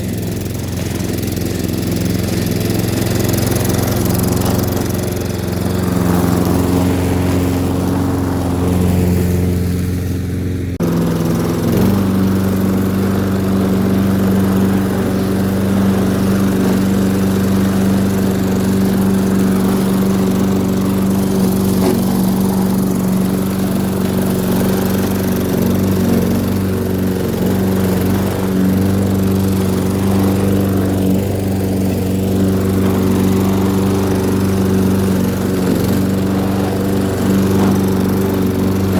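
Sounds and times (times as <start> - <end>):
lawn mower engine cutting grass: 0.0 - 38.9.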